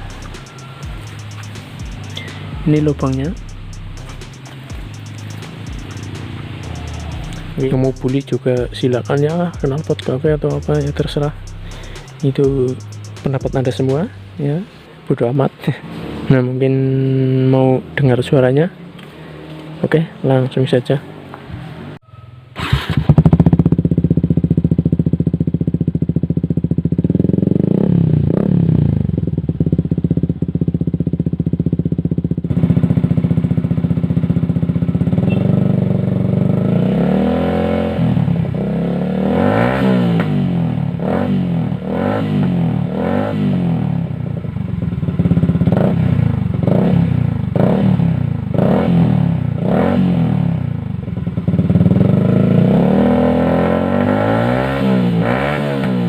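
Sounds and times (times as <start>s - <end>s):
motorcycle engine idling and revving: 0.0s - 15.0s, 15.6s - 56.0s.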